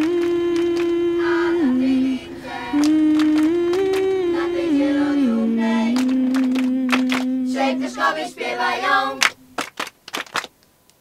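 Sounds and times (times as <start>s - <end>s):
woman singing unaccompanied: 0.0s - 9.3s.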